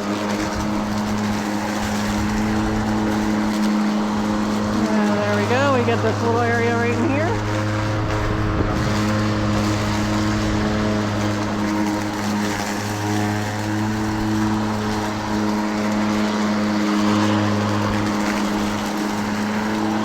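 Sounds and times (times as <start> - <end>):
remote-control lawnmower humming: 0.0 - 20.0.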